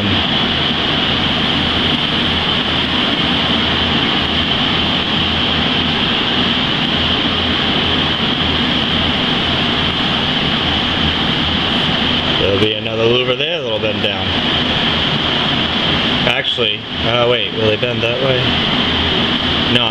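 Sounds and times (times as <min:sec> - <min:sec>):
loud mechanical rushing noise: 0:00.0 - 0:19.9
low hum: 0:00.0 - 0:19.9.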